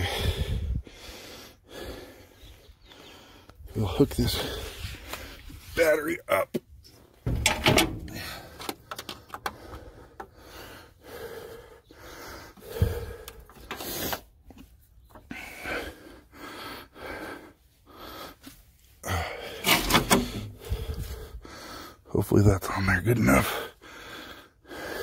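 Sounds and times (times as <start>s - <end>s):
man breathing with effort: 0.0s - 5.7s, 6.8s - 22.2s, 23.4s - 25.0s.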